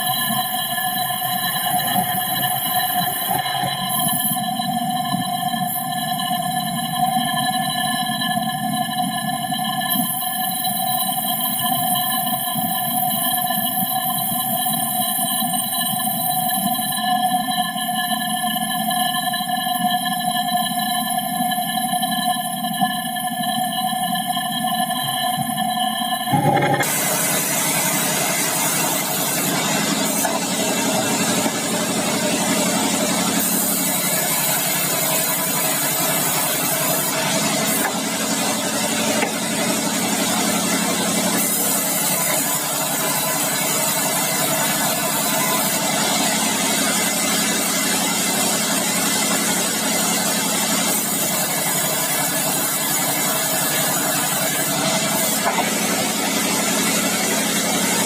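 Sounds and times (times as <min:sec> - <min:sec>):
bandsaw mill running: 0:00.0 - 0:58.0.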